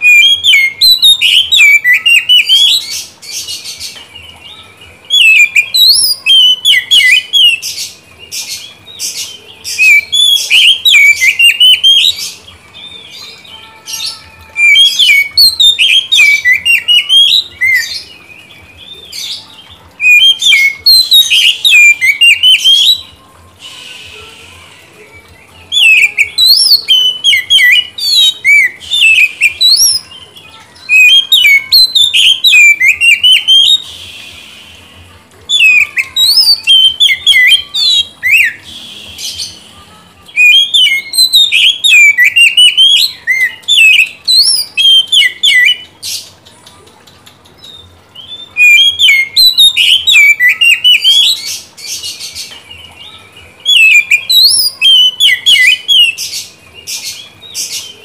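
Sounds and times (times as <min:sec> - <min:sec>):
bird singing whistled phrases: 0:00.0 - 0:46.2, 0:47.6 - 0:58.0.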